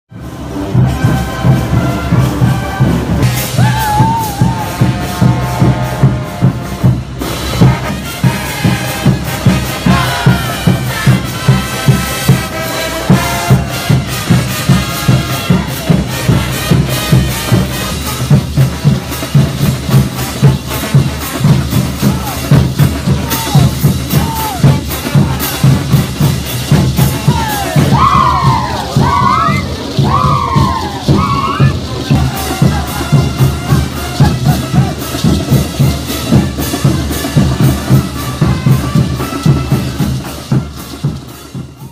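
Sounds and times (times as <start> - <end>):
music with heavy drum beat: 0.1 - 41.9.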